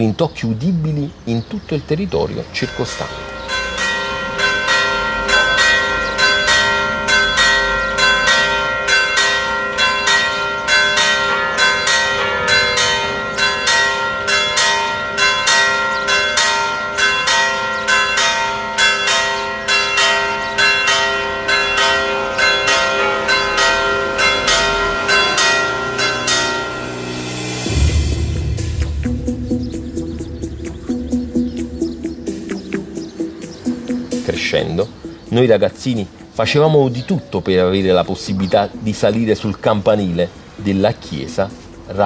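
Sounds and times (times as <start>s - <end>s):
church bells pealing: 1.9s - 42.0s.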